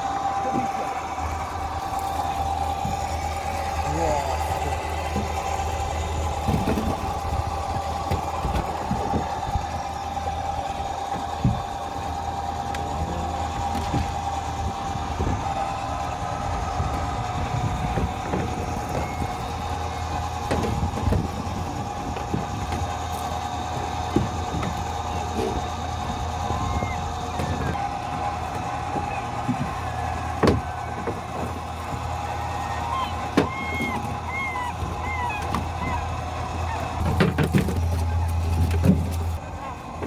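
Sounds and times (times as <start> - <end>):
outboard motor hum: 0.0 - 40.0
rope hauler whine: 0.0 - 40.0.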